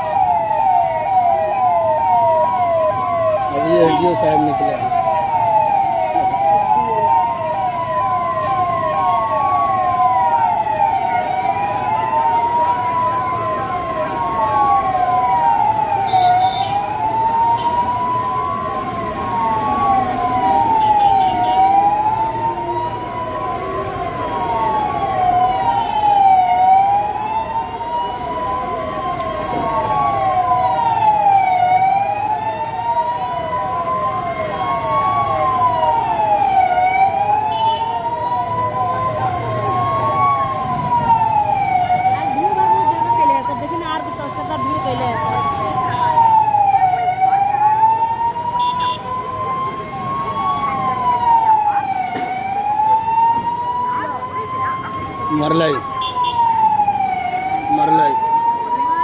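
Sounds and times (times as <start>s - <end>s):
wailing siren: 0.0s - 59.0s
warbling siren: 0.0s - 59.0s.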